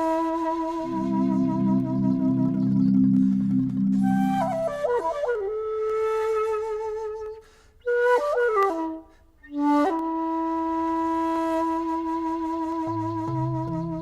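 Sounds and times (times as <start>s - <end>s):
bamboo flute melody: 0.0s - 14.0s.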